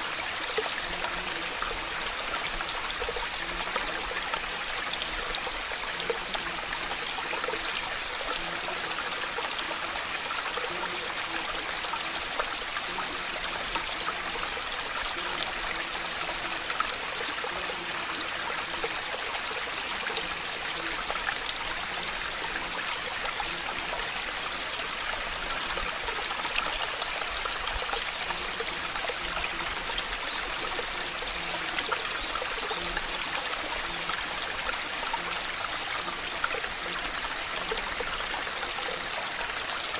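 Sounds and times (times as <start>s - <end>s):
streaming water hiss: 0.0s - 39.9s.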